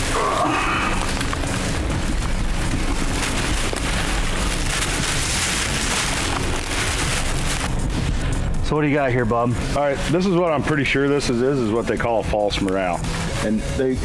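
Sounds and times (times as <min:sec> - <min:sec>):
brush rustling: 0:00.0 - 0:14.0
low rumble: 0:00.0 - 0:14.0.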